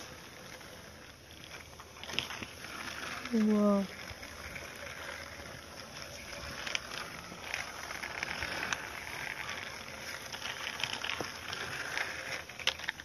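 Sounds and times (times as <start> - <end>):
toy wheels rolling on concrete: 0.0 - 13.0.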